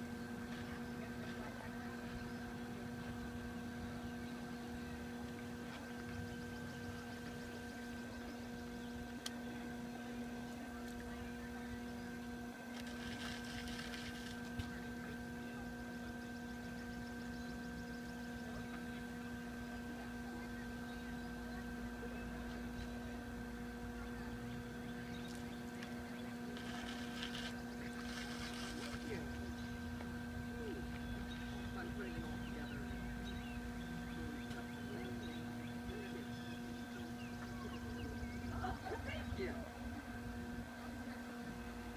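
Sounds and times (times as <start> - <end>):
potter's wheel humming: 0.0 - 41.9.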